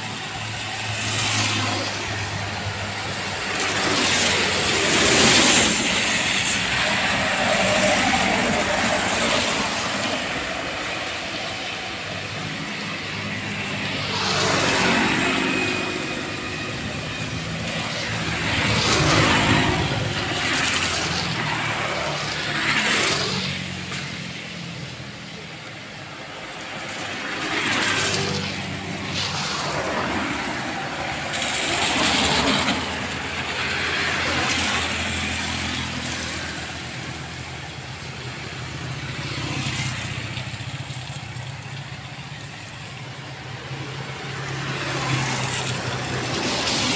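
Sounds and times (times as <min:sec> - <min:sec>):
tyres hissing through water: 0:00.0 - 0:46.9
vehicles passing on wet road: 0:00.0 - 0:46.9.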